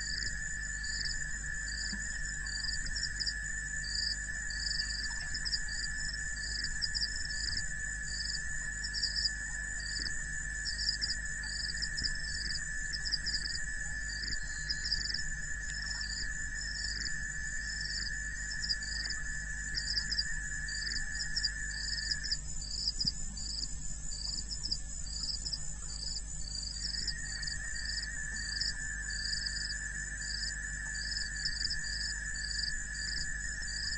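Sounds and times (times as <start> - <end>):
high insect buzz: 0.0 - 33.9
insects chirping: 0.0 - 33.9
low steady hum: 0.0 - 33.9.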